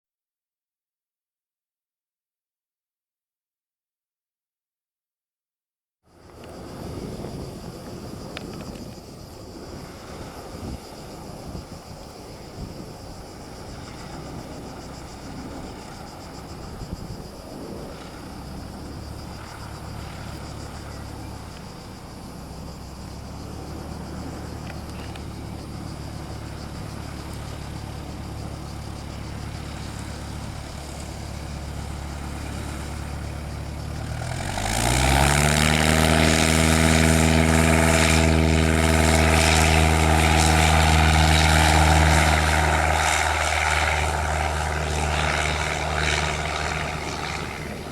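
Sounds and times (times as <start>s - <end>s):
propeller plane engine: 6.1s - 47.9s.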